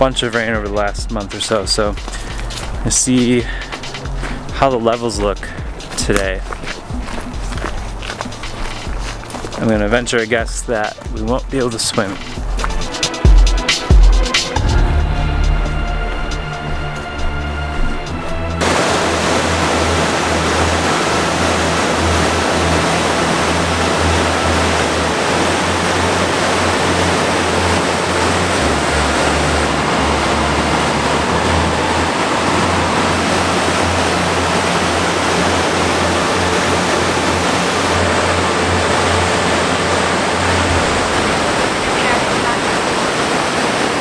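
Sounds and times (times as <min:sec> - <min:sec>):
low water rumble: 0:00.0 - 0:44.0
river rapids rushing: 0:00.0 - 0:44.0.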